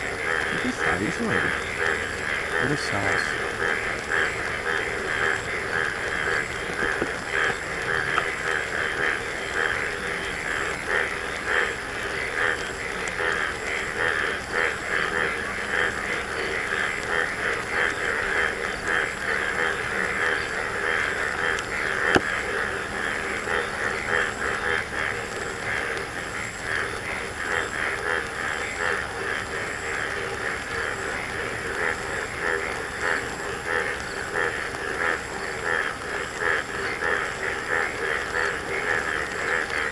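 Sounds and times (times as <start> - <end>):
chorus of frogs croaking: 0.0 - 39.9
rain: 0.0 - 39.9.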